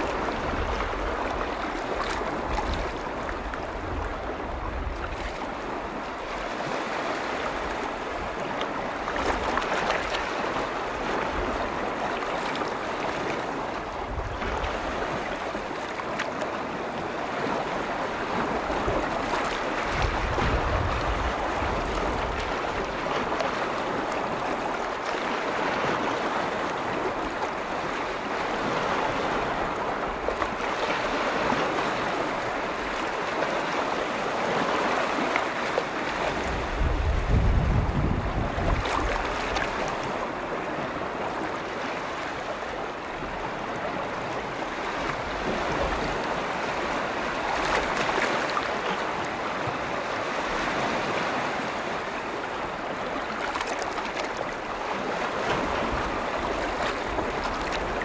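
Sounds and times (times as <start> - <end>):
lake waves washing in: 0.0 - 58.0
wind rumbling on microphone: 0.0 - 58.0.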